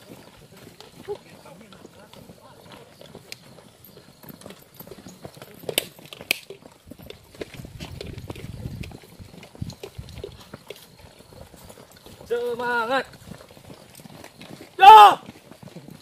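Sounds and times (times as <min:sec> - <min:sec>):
footsteps on a path: 0:00.0 - 0:16.0.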